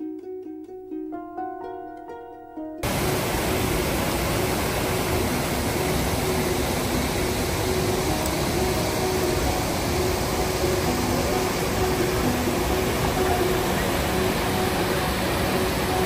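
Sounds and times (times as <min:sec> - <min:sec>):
fast-running stream: 0:02.8 - 0:16.0
waterfall roaring: 0:02.8 - 0:16.0.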